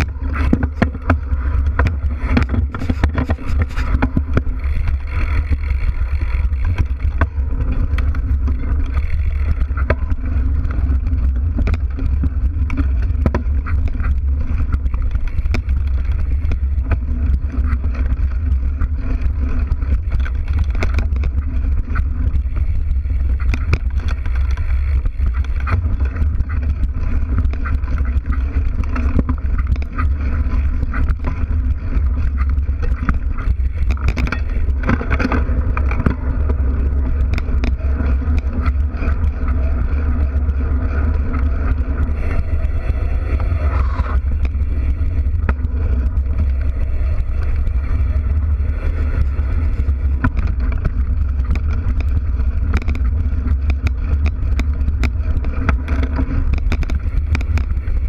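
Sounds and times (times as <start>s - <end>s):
bike rattles and knocks: 0.0s - 58.0s
bike tyre noise: 0.0s - 58.0s
low rumble of wind and vibration: 0.0s - 58.0s.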